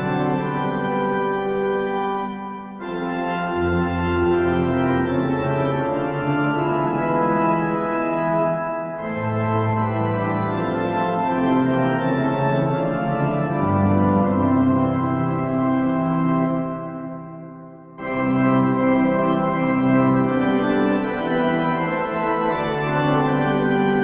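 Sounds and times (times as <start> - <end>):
organ playing slow chords: 0.0 - 24.0.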